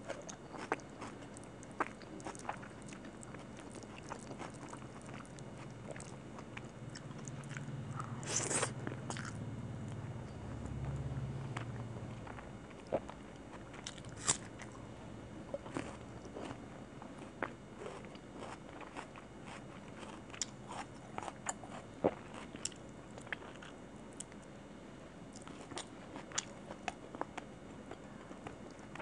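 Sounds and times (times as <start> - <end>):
chewing and biting food: 0.0 - 9.4, 10.6 - 14.8, 15.5 - 24.4, 25.3 - 29.0.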